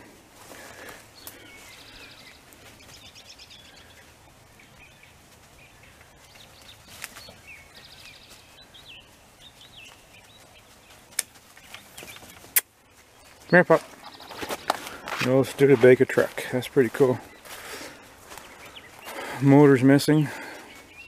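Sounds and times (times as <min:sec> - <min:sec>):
birds trilling and chirping: 0:00.0 - 0:21.0.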